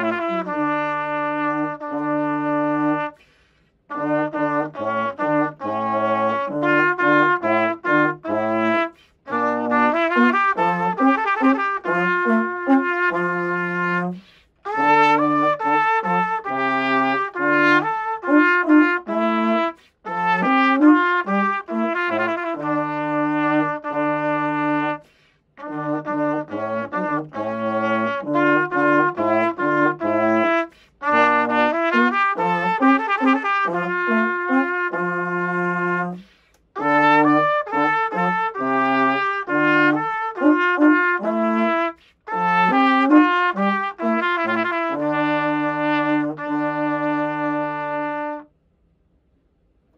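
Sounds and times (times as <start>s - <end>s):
baritone horn low line: 0.0s - 3.2s, 3.9s - 48.5s
trumpet melody: 0.0s - 48.6s.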